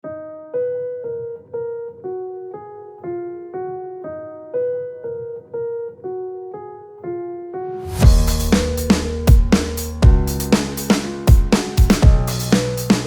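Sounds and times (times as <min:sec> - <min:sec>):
keyboard playing simple melody: 0:00.0 - 0:13.0.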